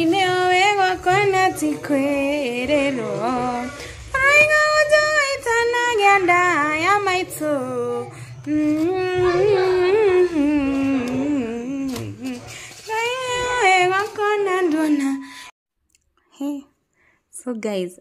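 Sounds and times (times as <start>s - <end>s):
woman singing: 0.0s - 15.5s.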